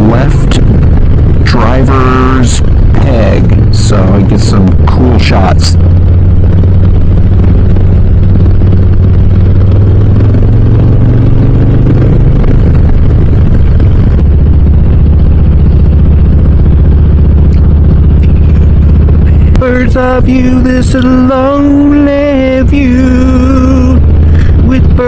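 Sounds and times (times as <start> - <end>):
wind rush: 0.0 - 20.8
motorcycle exhaust drone: 0.0 - 25.0.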